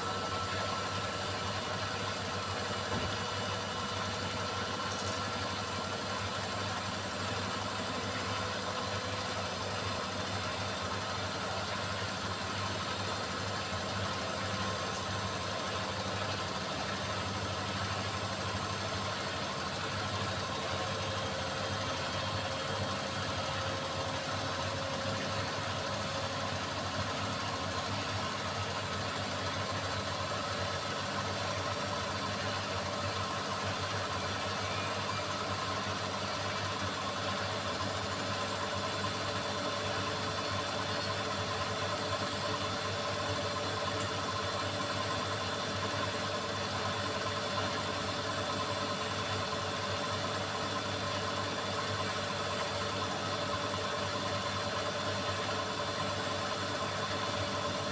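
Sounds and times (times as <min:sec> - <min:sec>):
washing machine running: 0:00.0 - 0:57.9.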